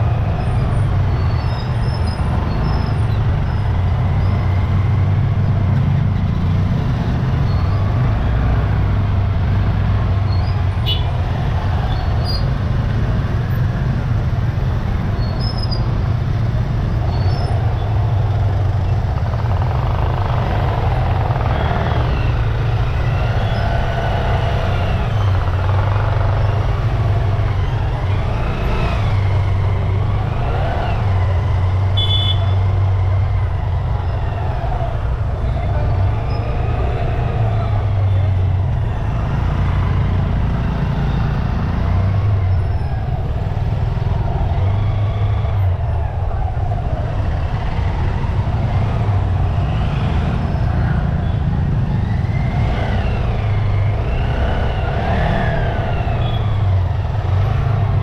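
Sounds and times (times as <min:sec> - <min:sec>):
motorcycle engines rumbling: 0:00.0 - 0:58.0
people's voices in street: 0:00.0 - 0:58.0.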